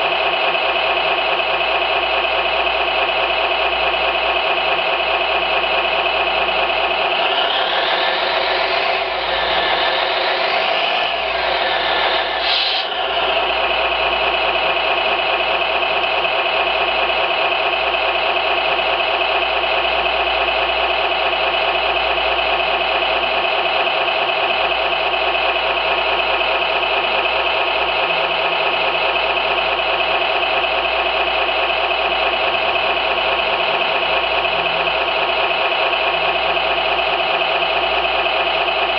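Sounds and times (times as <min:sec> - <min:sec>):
simulated engine idle from speaker: 0:00.0 - 0:38.9.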